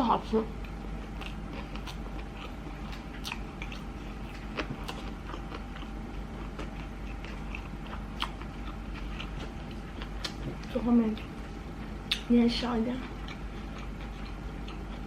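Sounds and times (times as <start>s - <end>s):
low hum: 0.0s - 15.0s
person chewing: 0.6s - 12.3s, 13.0s - 15.0s.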